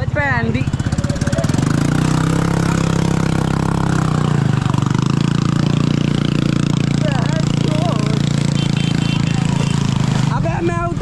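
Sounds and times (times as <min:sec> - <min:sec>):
small motorbike engine running: 0:00.4 - 0:10.6.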